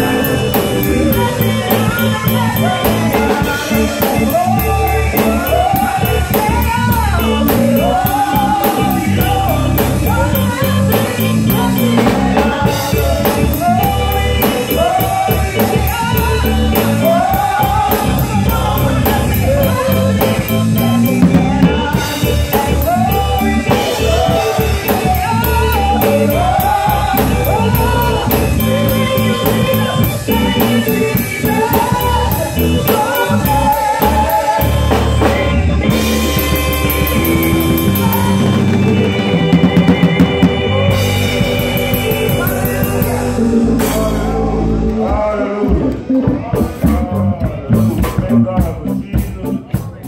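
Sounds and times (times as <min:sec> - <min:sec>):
drum kit beat with cymbals: 0:00.0 - 0:50.0
gospel band singing: 0:00.0 - 0:50.0.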